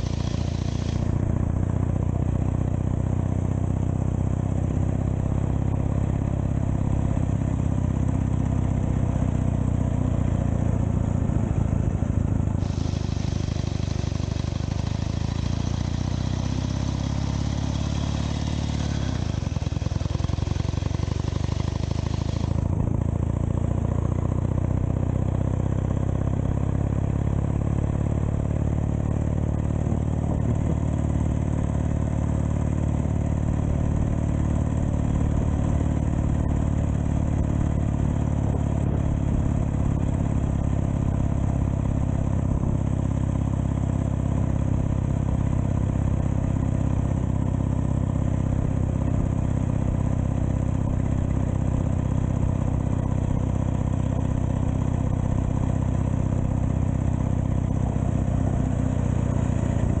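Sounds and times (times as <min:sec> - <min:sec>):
motorcycle engine running: 0:00.0 - 1:00.0.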